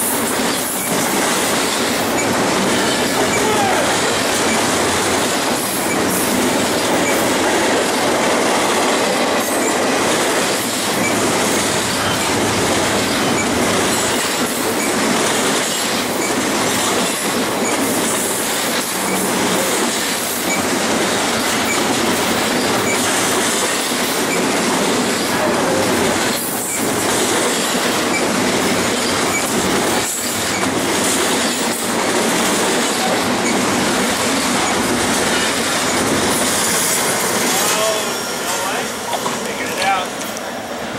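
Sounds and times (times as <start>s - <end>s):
steel train wheels on rail: 0.0s - 40.9s.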